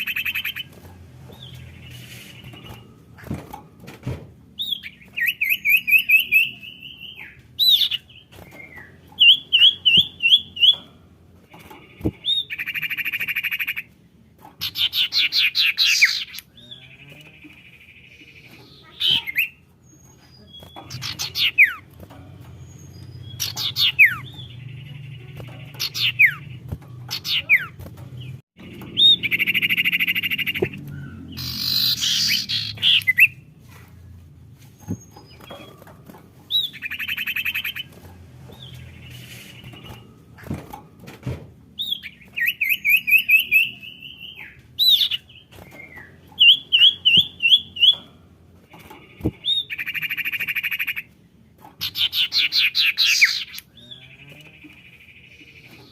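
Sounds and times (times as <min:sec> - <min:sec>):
bird chirps and trills: 0:00.0 - 0:03.6, 0:04.5 - 0:40.8, 0:41.7 - 0:55.9.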